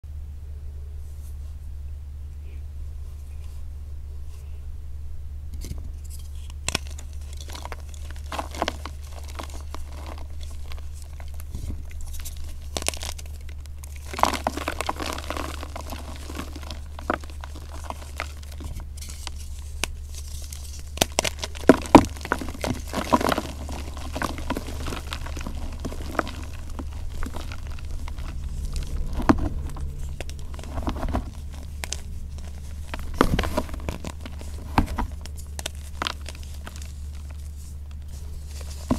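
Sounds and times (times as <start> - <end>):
sharp chalk cracks: 5.6 - 38.9.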